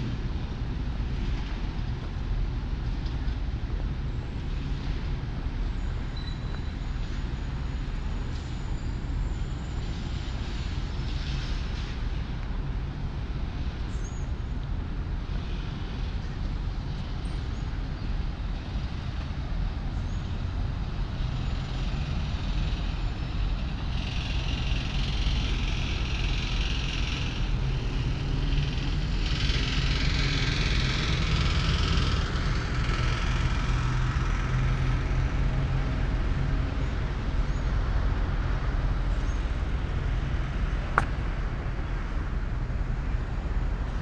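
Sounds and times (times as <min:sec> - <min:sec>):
city traffic rumble: 0:00.0 - 0:44.0.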